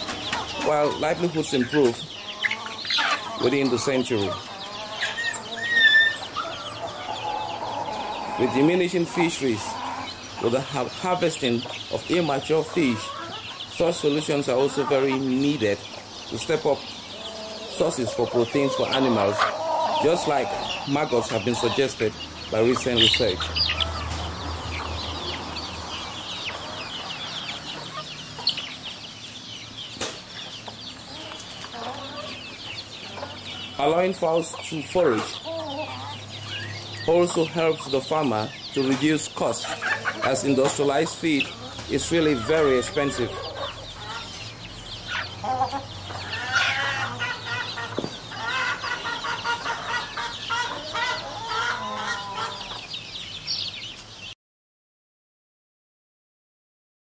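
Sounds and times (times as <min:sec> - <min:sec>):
chickens clucking: 0:00.0 - 0:54.4.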